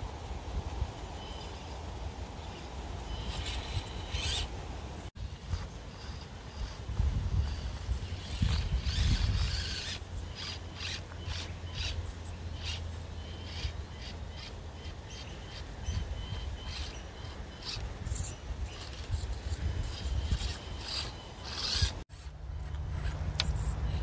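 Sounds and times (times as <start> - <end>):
small electric motor and gears: 2.4 - 24.0.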